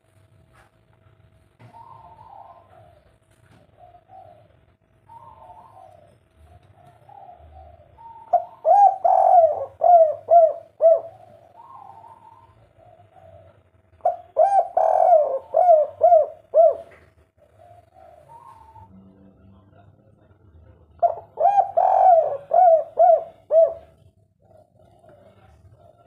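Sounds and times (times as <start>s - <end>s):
dove cooing: 1.6s - 19.1s, 21.0s - 26.0s.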